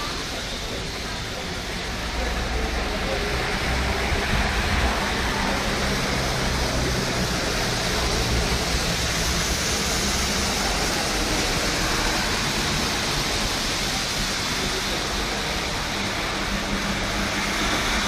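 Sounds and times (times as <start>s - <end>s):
metro train rushing past: 0.0s - 18.0s.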